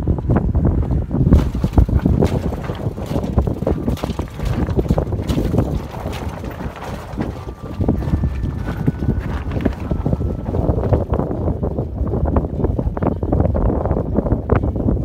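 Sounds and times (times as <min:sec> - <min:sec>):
heavy low rumble: 0:00.0 - 0:15.0
wind buffeting microphone: 0:00.0 - 0:15.0.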